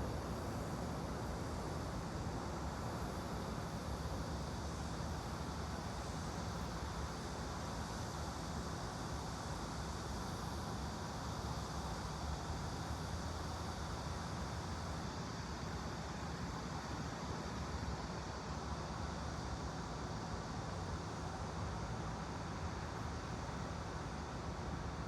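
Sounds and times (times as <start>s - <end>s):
white noise: 0.0s - 25.0s.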